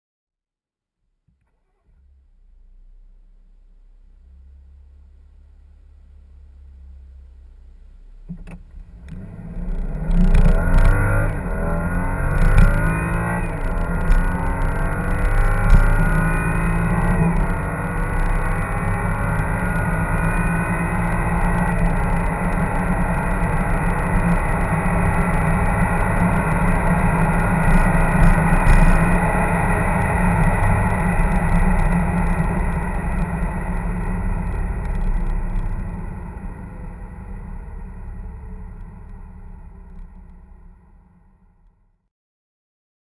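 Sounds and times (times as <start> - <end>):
car engine at high revs: 1.5 - 41.2
wind and tyre noise: 2.0 - 41.8.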